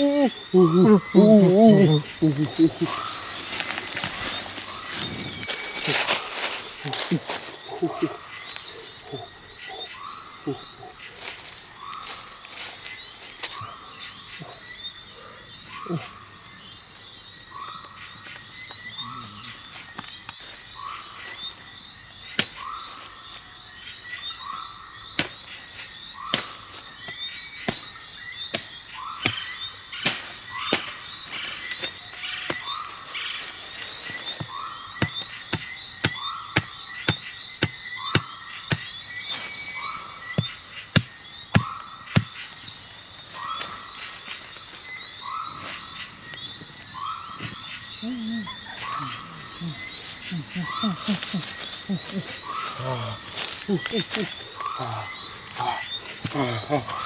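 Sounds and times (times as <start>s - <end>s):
frogs croaking: 0.0s - 57.0s
high insect drone: 0.0s - 57.0s.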